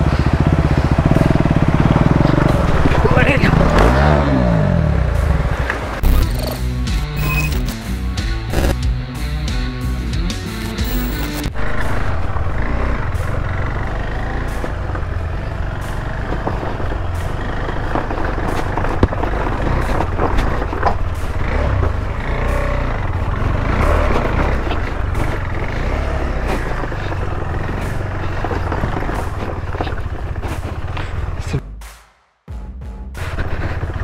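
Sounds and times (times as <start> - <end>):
motorcycle engine low rumble: 0.0 - 31.8, 32.5 - 34.0.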